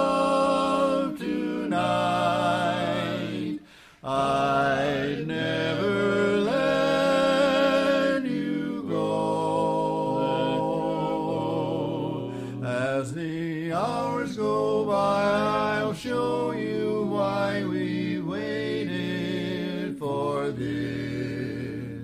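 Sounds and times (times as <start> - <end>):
quartet singing a cappella: 0.0 - 22.0.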